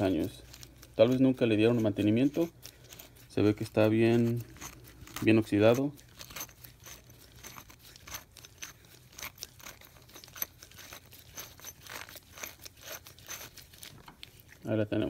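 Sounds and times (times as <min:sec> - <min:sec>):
rubber gloves gripping metal: 0:00.0 - 0:14.5
rusted threads crackling: 0:00.0 - 0:15.0.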